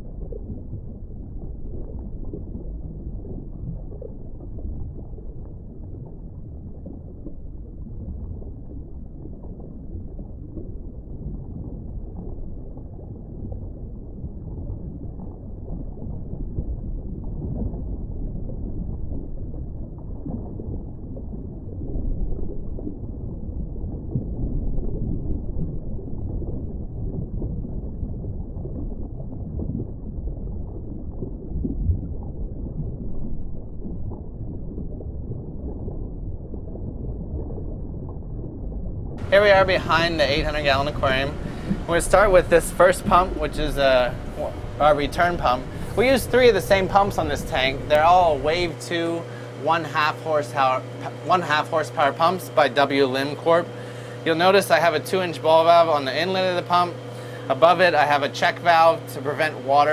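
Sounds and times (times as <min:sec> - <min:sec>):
aquarium water circulating: 0:00.0 - 0:59.9.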